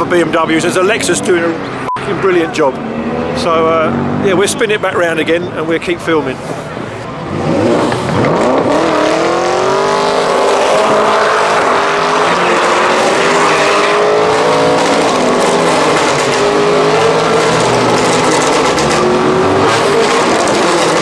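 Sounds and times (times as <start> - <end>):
car engine at high revs: 0.0 - 5.6, 6.4 - 21.0.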